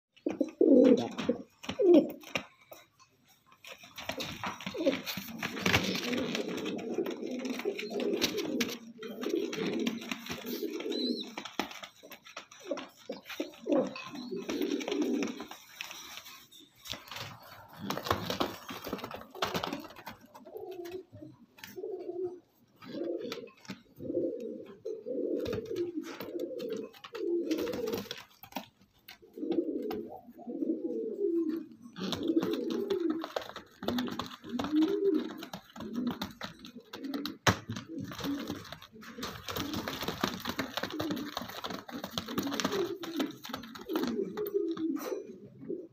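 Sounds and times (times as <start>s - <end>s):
pigeons cooing: 0.2s - 2.8s, 3.7s - 45.9s.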